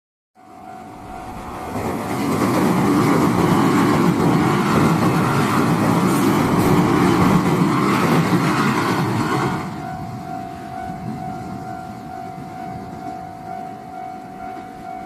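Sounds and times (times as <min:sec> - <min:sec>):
train wheels rumbling: 0:00.6 - 0:15.0.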